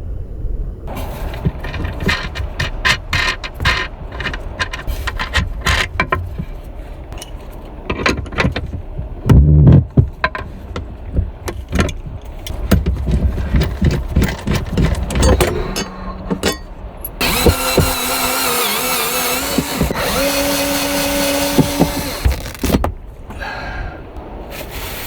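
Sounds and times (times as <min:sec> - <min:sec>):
objects clicking and rattling: 0:00.9 - 0:23.4
heavy thump: 0:00.9 - 0:23.6.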